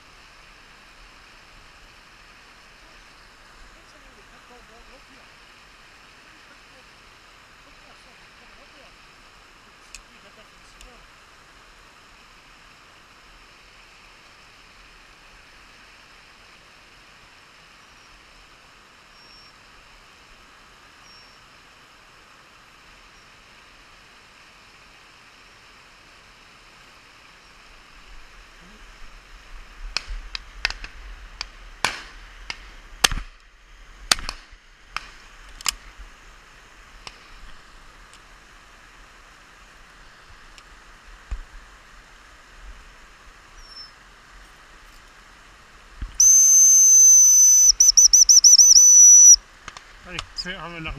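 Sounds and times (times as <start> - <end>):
stream rushing: 0.0 - 50.9.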